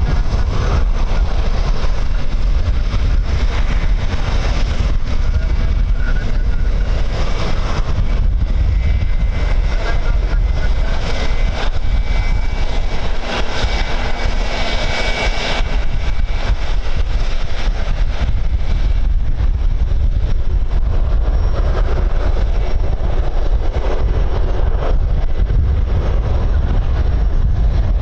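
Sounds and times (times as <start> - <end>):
jet engines whining: 0.0 - 28.0
wind rumble on microphone: 0.0 - 28.0.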